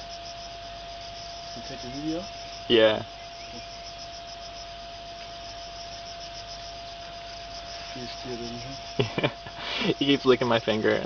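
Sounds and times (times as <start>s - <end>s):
background hiss: 0.0s - 11.0s
thin steady tone: 0.0s - 11.0s.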